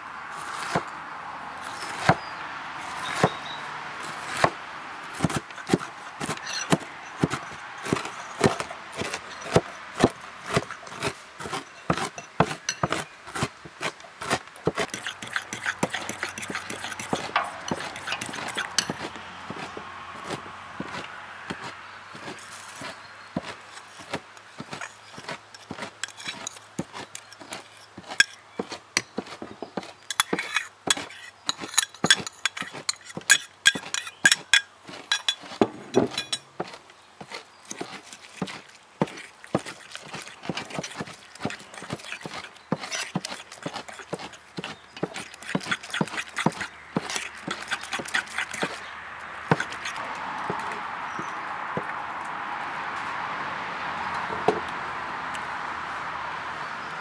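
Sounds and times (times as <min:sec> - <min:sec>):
fork scraping ceramic bowl: 0:05.2 - 0:51.3.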